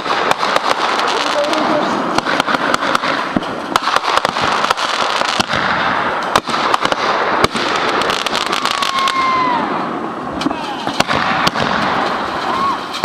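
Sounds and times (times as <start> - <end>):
fireworks crackle: 0.0 - 13.0
fireworks cracks and pops: 0.0 - 13.0.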